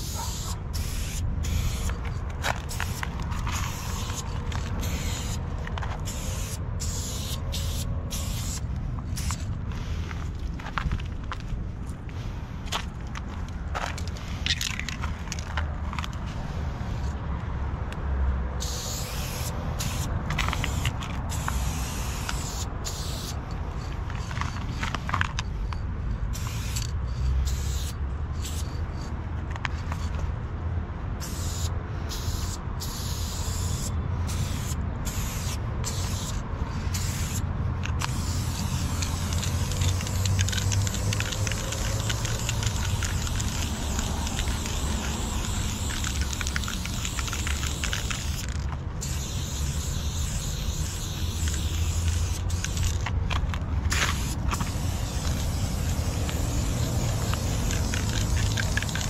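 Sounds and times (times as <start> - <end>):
spray paint can hissing: 0.0 - 11.2, 12.1 - 17.2, 18.6 - 30.3, 31.2 - 59.0.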